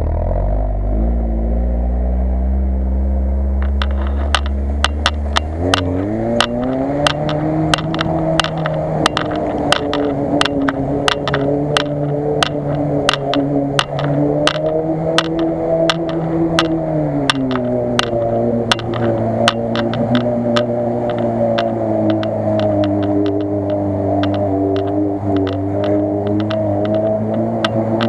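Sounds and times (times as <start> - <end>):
car engine droning: 0.0 - 28.0
sharp clicks and knocks: 3.6 - 28.0.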